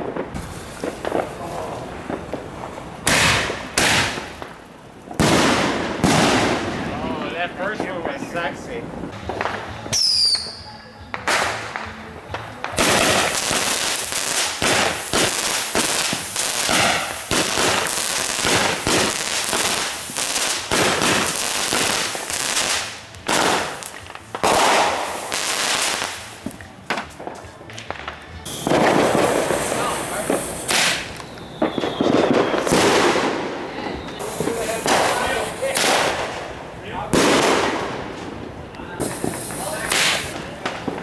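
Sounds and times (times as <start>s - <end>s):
fireworks falling whistles: 0.0s - 2.5s, 7.8s - 36.4s, 39.0s - 41.0s
fireworks popping and banging: 0.0s - 41.0s.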